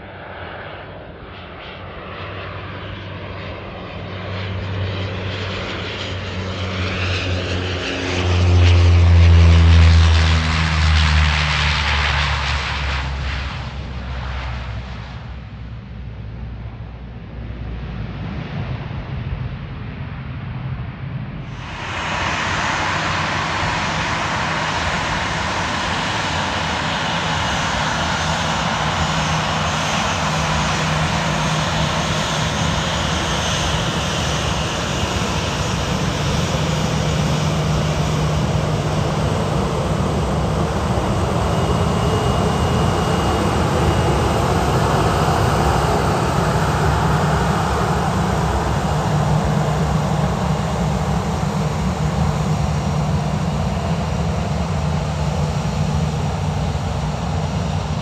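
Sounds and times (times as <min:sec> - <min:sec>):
jet engines taxiing rumble: 0:00.0 - 0:58.0.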